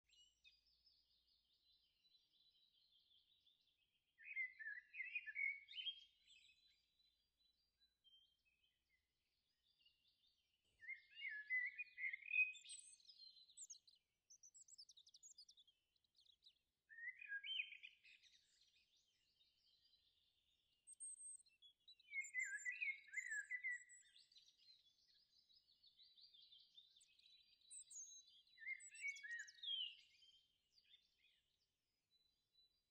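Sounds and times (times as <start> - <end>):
faint birdsong chirping: 0.0 - 32.9.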